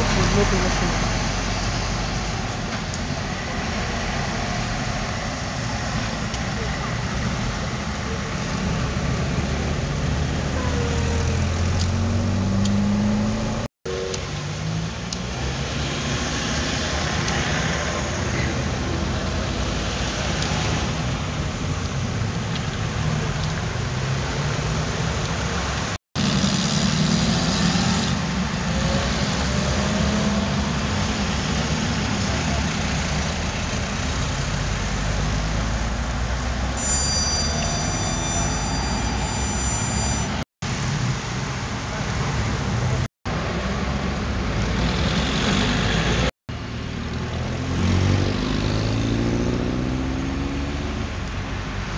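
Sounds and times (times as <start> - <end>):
street traffic: 0.0 - 51.9.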